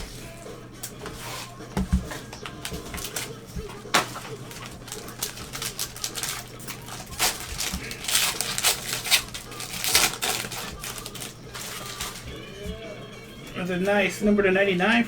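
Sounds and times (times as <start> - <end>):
cards clicking: 0.0 - 12.5
card packs rustling: 0.0 - 15.0.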